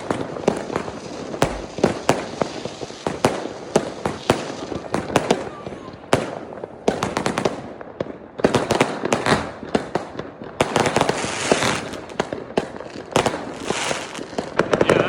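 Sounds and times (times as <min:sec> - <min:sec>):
firecracker crackling: 0:00.0 - 0:15.0
fireworks bangs: 0:00.0 - 0:15.0.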